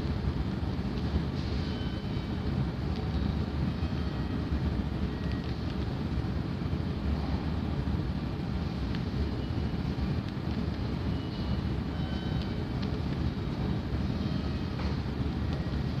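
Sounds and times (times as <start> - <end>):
subway platform low rumble: 0.0 - 16.0.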